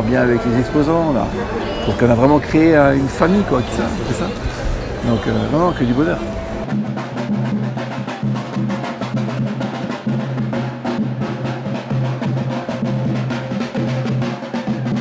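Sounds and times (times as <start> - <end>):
drum band playing fast beat: 0.0 - 15.0.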